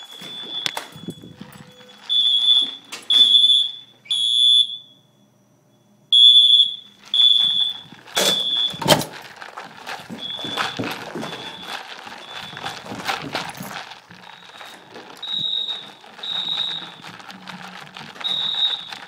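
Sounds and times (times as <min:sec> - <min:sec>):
fire alarm horn blasts: 0:00.0 - 0:05.4, 0:06.1 - 0:09.1, 0:10.2 - 0:12.9, 0:14.2 - 0:19.0.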